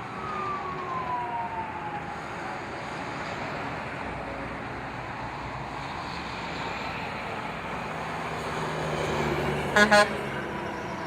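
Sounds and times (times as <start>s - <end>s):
road noise: 0.0s - 11.0s
truck engines humming: 0.0s - 11.0s.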